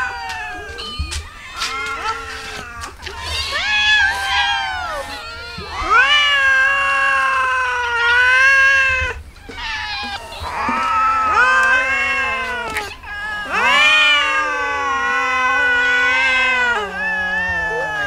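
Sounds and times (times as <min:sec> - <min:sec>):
cats meowing: 0:00.0 - 0:18.0.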